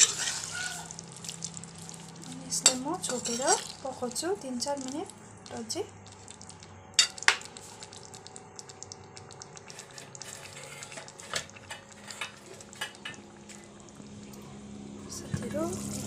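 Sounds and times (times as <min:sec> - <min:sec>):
curry sizzling and crackling: 0:00.0 - 0:16.0.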